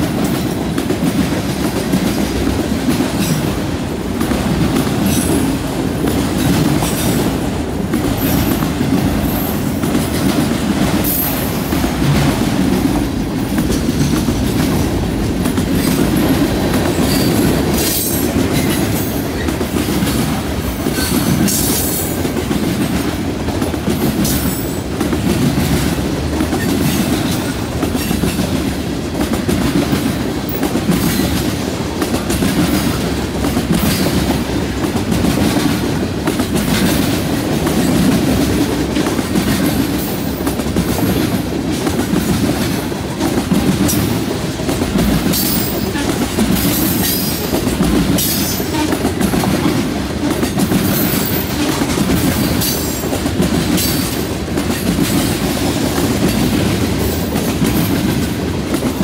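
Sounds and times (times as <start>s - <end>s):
freight train rumbling past: 0.0s - 59.0s
wheels clacking on rails: 0.0s - 59.0s.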